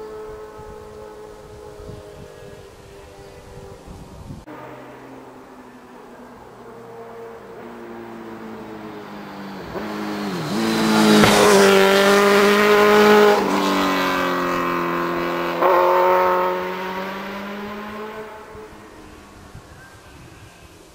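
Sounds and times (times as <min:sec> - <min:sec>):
motorcycle engine accelerating: 0:00.0 - 0:20.5.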